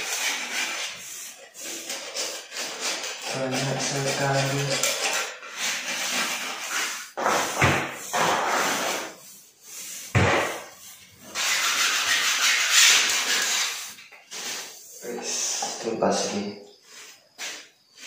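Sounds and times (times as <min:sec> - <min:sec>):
paintbrush scratching on wall: 0:00.0 - 0:18.0.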